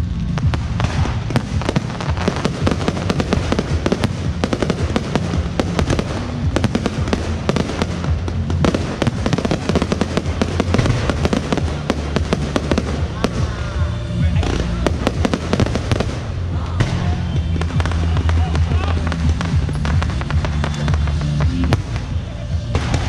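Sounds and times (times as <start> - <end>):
fireworks crackling and banging: 0.0 - 23.0.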